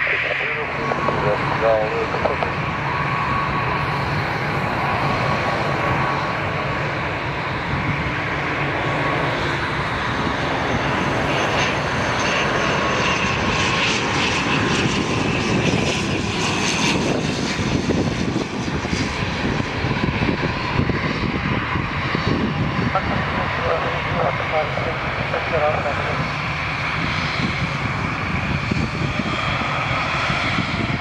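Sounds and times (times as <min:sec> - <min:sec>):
turboprop airliner flying past: 0:00.0 - 0:31.0.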